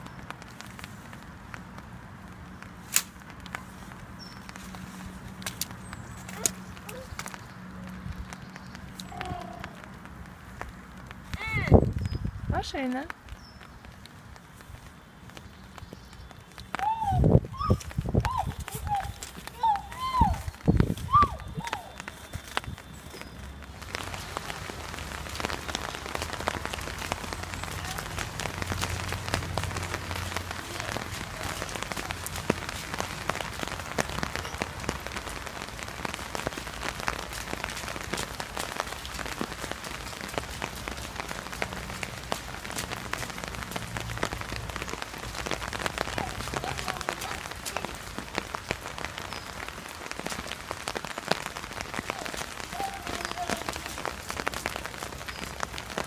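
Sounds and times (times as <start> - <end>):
rain pattering on paving: 0.0 - 56.0.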